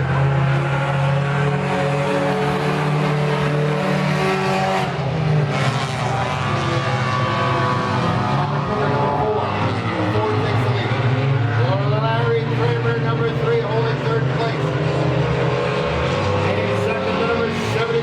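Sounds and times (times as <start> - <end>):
race cars roaring around track: 0.0 - 18.0.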